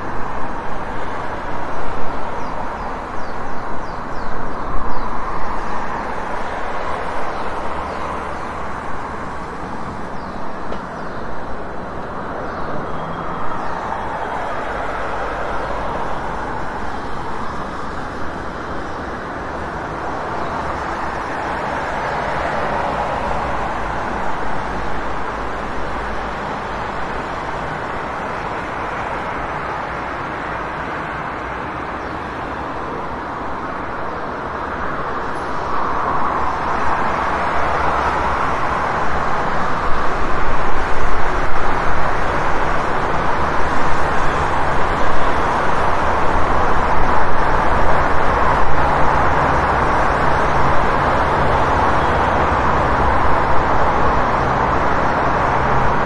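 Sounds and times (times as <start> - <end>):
city street traffic: 0.0 - 56.0
vehicles passing: 0.0 - 56.0.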